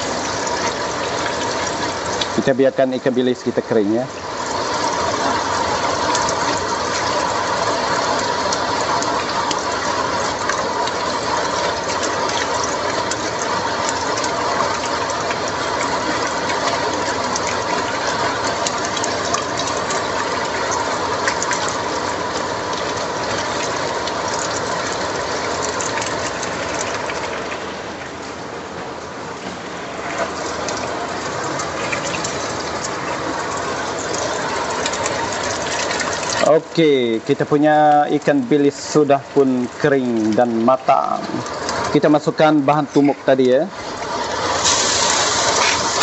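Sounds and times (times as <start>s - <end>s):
fish sizzling in hot oil: 0.0s - 27.8s, 29.9s - 46.0s.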